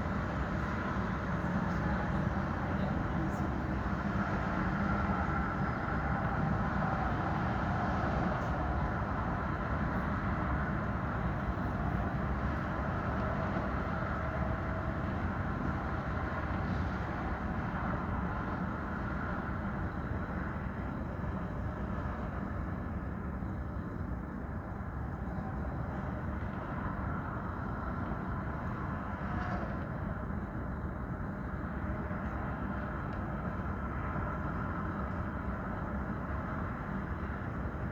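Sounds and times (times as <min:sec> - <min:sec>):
rumble of passing vehicles: 0:00.0 - 0:37.9.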